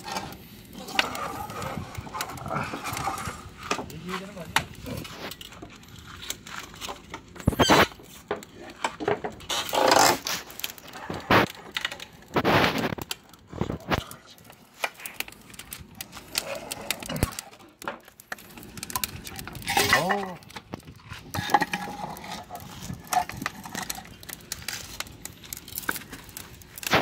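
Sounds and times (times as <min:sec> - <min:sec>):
metal grill scraping on brick: 0:00.0 - 0:14.0, 0:16.0 - 0:25.0.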